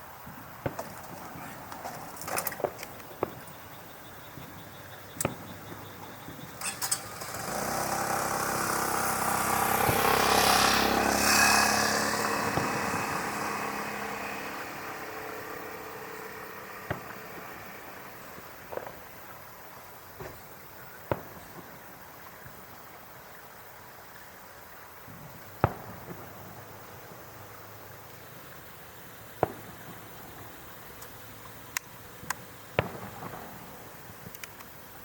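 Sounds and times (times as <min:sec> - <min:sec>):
fireworks bangs: 0:00.0 - 0:22.6, 0:25.1 - 0:28.6, 0:29.3 - 0:30.9, 0:32.0 - 0:34.4
steady background hiss: 0:00.0 - 0:35.0.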